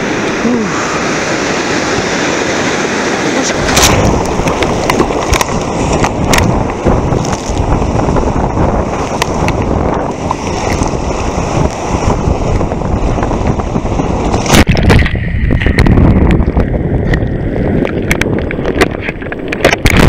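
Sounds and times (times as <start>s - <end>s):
sea water rushing and splashing: 0.0s - 20.0s
wind buffeting microphone: 0.0s - 20.0s.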